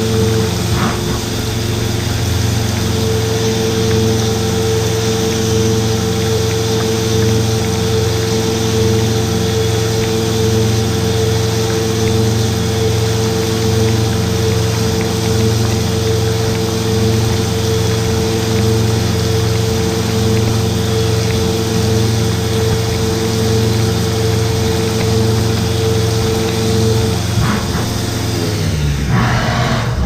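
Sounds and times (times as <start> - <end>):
milling machine humming: 0.0 - 30.0.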